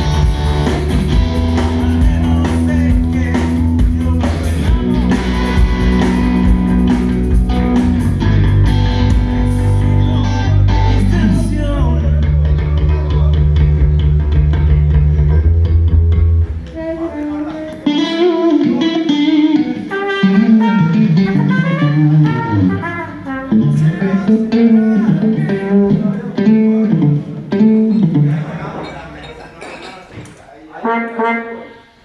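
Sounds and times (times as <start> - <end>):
electric guitar: 0.0 - 28.6
bass guitar notes: 0.0 - 29.2.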